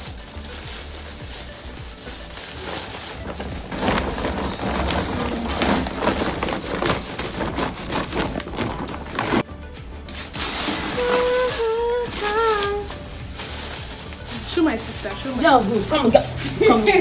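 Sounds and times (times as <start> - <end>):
plastic bag crinkling: 0.0 - 9.5, 10.2 - 16.0.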